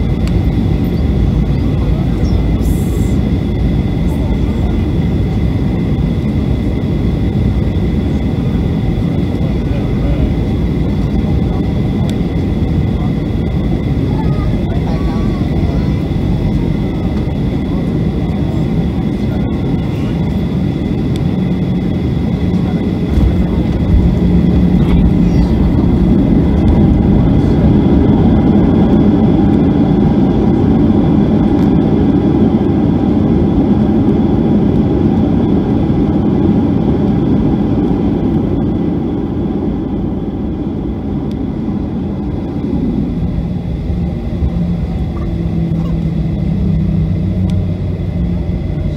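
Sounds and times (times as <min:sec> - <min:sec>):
high engine whine: 0:00.0 - 0:48.9
jet engine and rushing air in cabin: 0:00.0 - 0:48.9.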